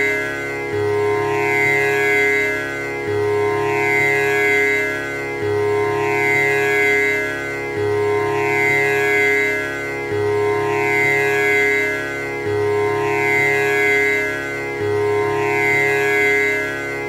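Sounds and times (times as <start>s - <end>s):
tanpura drone: 0.0s - 17.0s.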